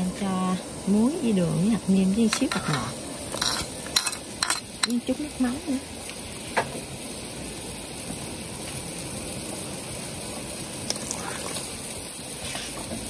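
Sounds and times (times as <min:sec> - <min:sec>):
liquid simmering in a wok: 0:00.0 - 0:13.0.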